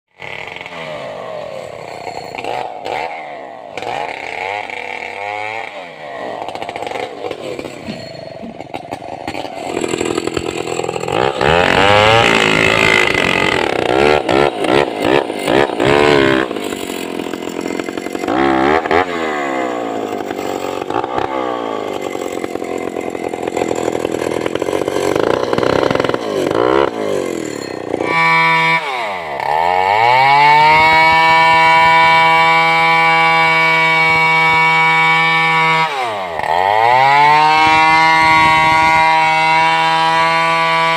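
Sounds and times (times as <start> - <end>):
chainsaw cutting log: 0.1 - 40.9.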